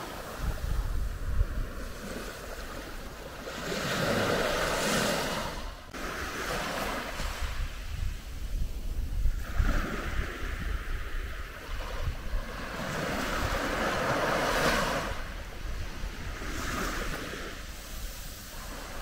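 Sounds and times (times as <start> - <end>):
sea waves washing onto beach: 0.0 - 19.0
wind rumble on microphone: 0.0 - 19.0.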